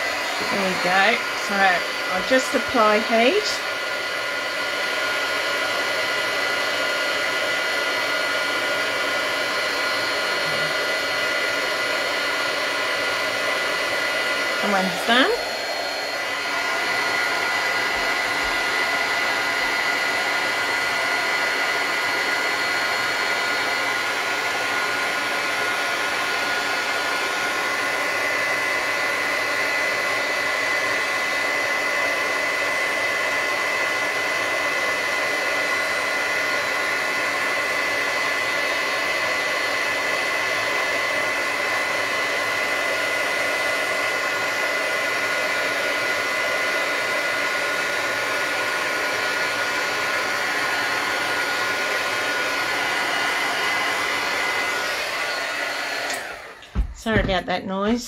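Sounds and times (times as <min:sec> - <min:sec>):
heat gun blowing: 0:00.0 - 0:58.0.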